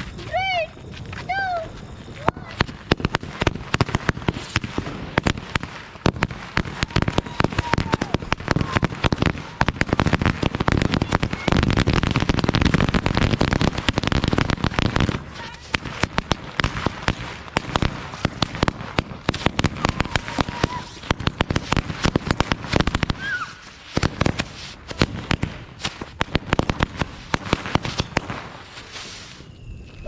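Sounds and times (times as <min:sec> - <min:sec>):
firecrackers banging: 0:00.0 - 0:30.0.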